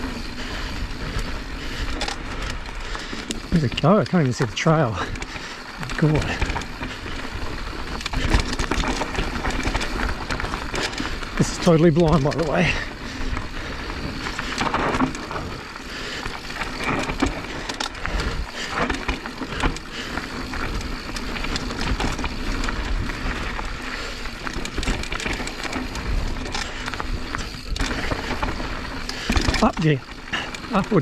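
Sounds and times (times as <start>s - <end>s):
bike knocking and rattling: 0.0s - 31.0s
bike tyres on dirt trail: 0.0s - 31.0s.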